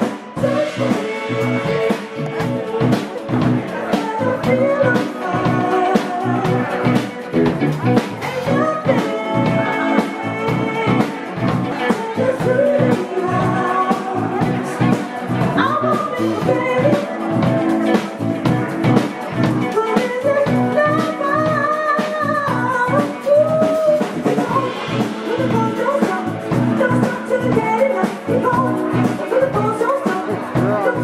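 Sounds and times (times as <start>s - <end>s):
drum kit: 0.0s - 31.0s
guitar: 0.0s - 31.0s
keyboard: 0.0s - 31.0s
woman singing: 0.0s - 31.0s.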